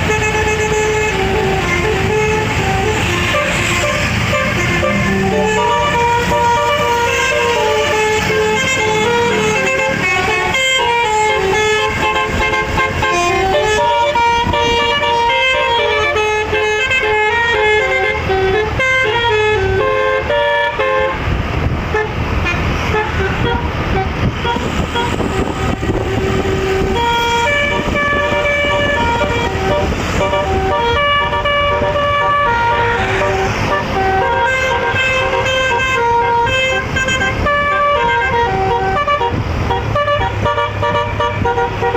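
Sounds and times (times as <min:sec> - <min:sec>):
bus air horn playing a tune: 0:00.0 - 0:41.9
bus engine: 0:00.0 - 0:41.9
road noise: 0:00.0 - 0:41.9.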